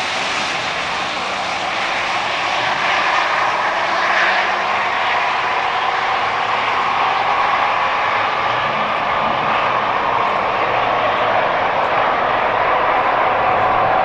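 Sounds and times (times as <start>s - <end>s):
drag racing engines roaring: 0.0s - 14.0s.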